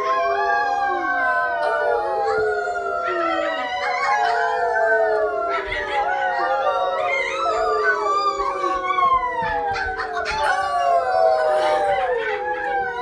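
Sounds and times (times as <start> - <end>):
children howling like wolves: 0.0 - 13.0.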